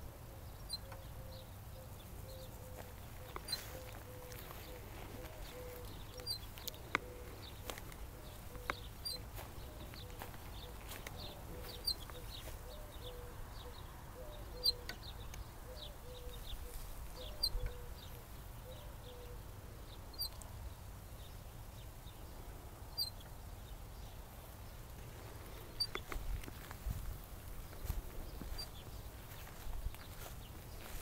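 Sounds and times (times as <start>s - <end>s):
low outdoor rumble: 0.0s - 31.0s
small birds chirping: 0.0s - 31.0s.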